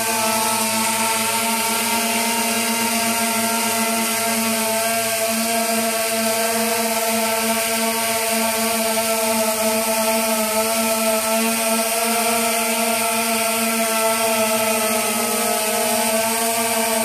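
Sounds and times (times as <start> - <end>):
quadcopter buzzing overhead: 0.0 - 17.0.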